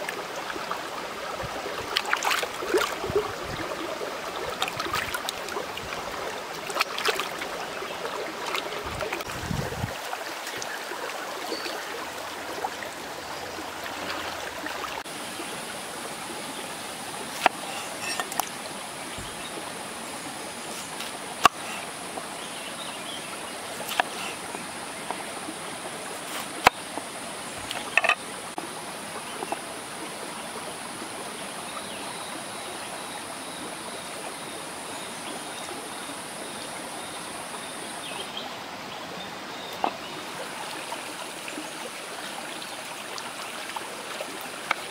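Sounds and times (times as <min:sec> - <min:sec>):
rocky stream running: 0:00.0 - 0:44.9.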